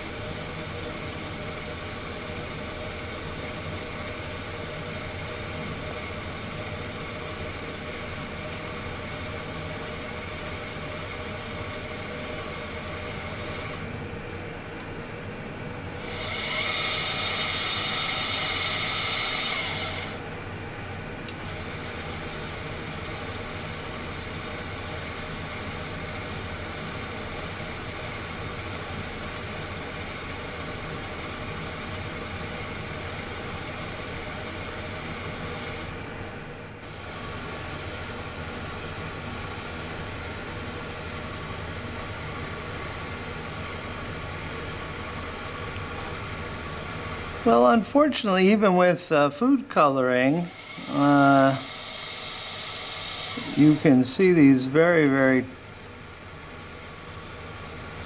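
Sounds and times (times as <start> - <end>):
loud whirring: 0.0 - 58.0
motor hum and whine: 0.0 - 58.0.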